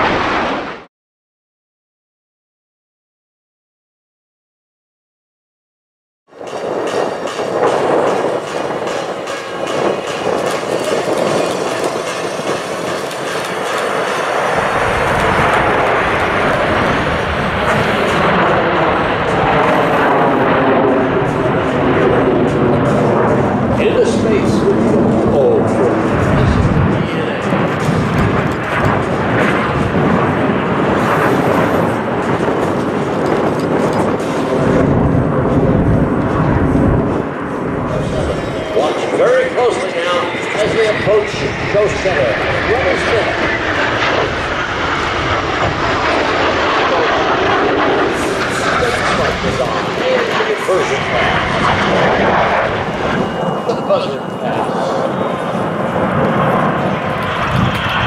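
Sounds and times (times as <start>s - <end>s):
jet roar overhead: 0.0s - 0.9s, 6.3s - 58.0s.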